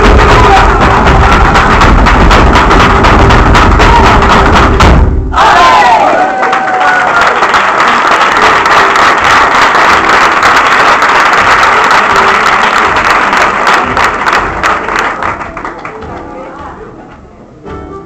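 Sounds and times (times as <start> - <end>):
audience applauding: 0.0 - 4.8, 5.4 - 16.3.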